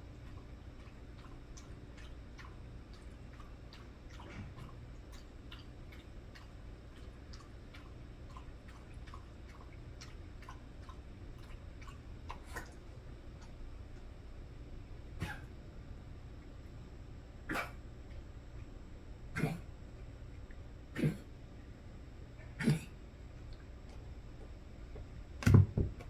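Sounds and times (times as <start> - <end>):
pet lapping water: 0.0 - 25.3
low steady hum: 0.0 - 26.0.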